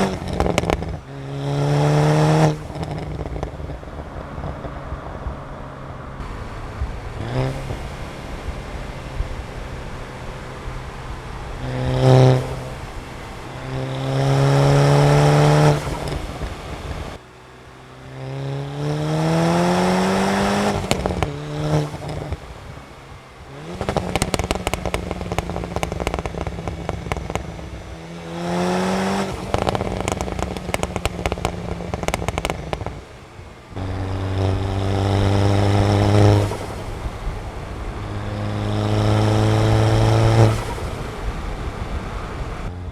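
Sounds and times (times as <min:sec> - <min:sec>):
exhaust crackles and pops: 0:00.0 - 0:17.2, 0:18.2 - 0:42.9
car engine accelerating: 0:00.0 - 0:42.9.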